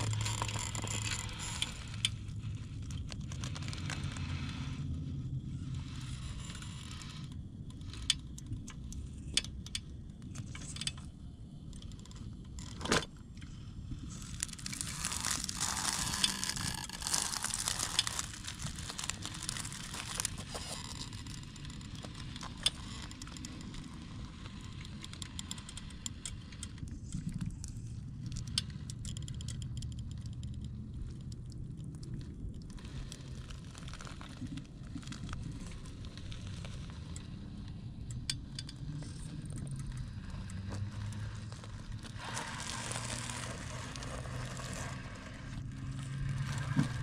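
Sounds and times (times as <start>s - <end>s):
low drivetrain hum: 0.0s - 33.4s, 34.0s - 47.0s.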